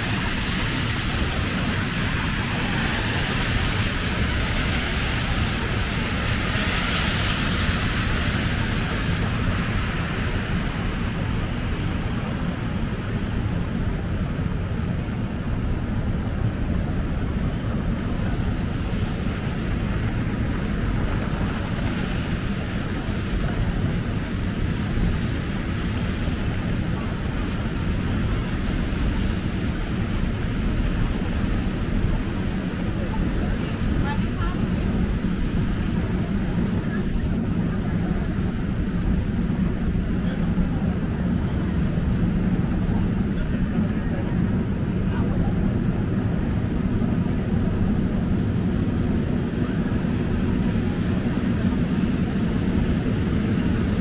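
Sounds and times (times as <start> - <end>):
traffic rumble: 0.0 - 54.0
tyres hissing on wet pavement: 0.0 - 54.0.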